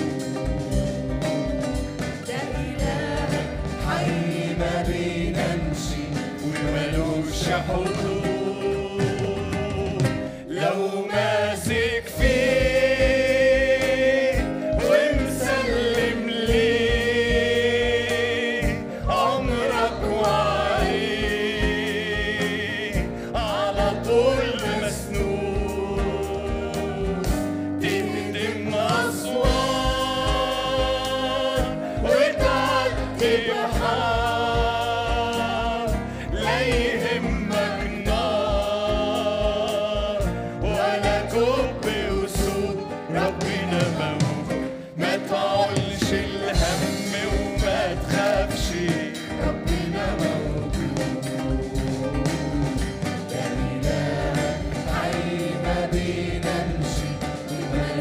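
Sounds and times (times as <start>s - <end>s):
band playing steady beat: 0.0s - 58.0s
choir singing worship song: 0.0s - 58.0s.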